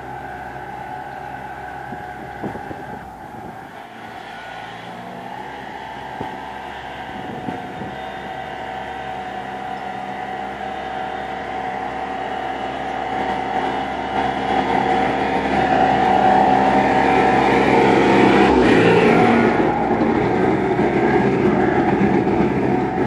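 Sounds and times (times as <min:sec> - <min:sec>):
tractor engine under load: 0:00.0 - 0:23.0.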